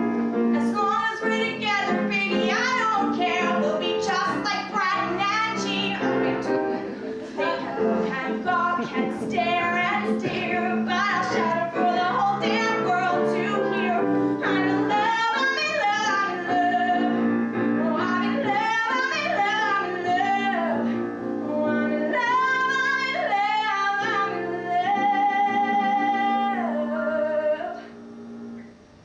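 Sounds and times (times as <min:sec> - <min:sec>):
instrumental accompaniment: 0:00.0 - 0:29.0
woman singing: 0:00.5 - 0:06.8, 0:07.4 - 0:27.9.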